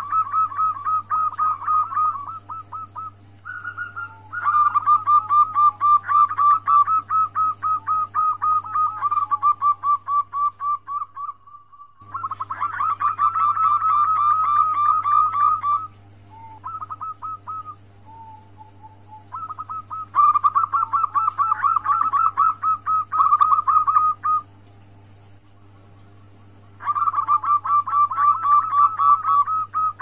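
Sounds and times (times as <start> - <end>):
dove rapid staccato cooing: 0.0 - 24.5, 26.5 - 30.0.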